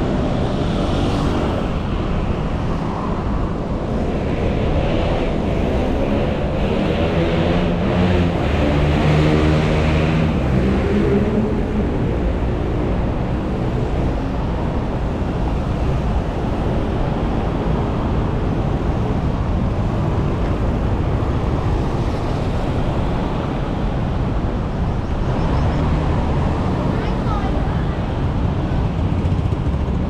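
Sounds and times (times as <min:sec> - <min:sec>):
engine hum: 0:00.0 - 0:30.0
street traffic rumble: 0:00.0 - 0:30.0.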